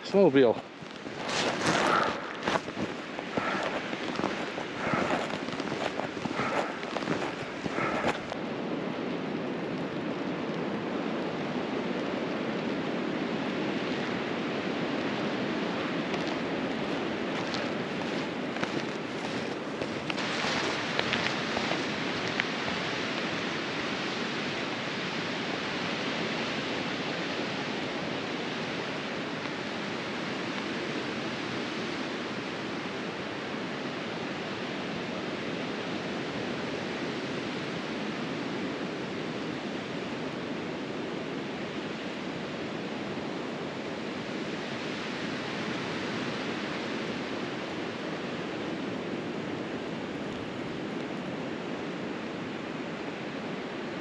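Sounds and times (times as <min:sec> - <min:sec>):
blizzard wind rushing: 0:00.0 - 0:54.0.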